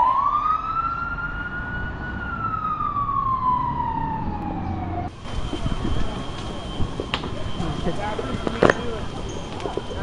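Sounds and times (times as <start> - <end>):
engine and traffic rumble: 0.0 - 10.0
fire truck siren wailing: 0.0 - 10.0.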